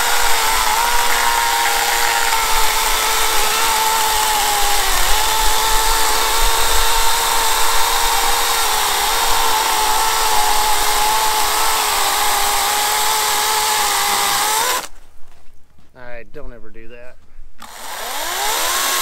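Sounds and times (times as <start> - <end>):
electric chainsaw cutting log: 0.0 - 14.9, 17.6 - 19.0.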